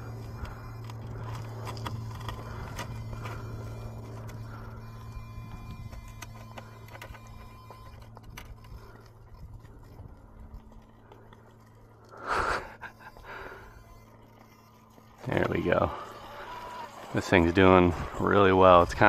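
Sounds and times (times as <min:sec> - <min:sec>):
low background hum: 0:00.0 - 0:19.0
ticks and scrapes on rock: 0:00.0 - 0:19.0
toy car scrabbling on rock: 0:00.0 - 0:19.0.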